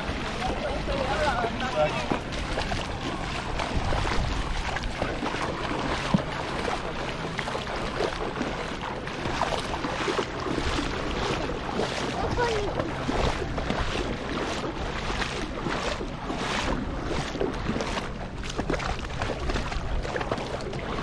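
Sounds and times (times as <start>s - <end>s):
steady rush of water: 0.0s - 21.0s
wind buffeting microphone: 0.0s - 21.0s.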